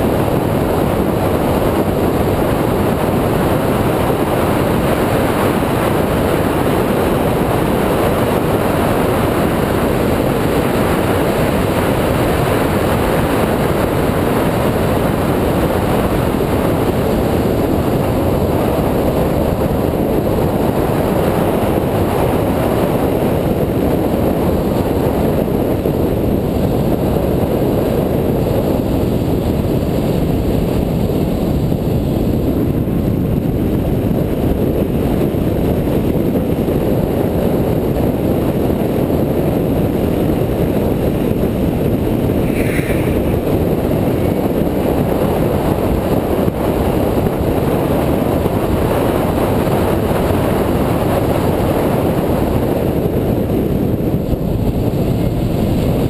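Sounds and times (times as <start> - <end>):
wind rushing over camera: 0.0 - 56.0.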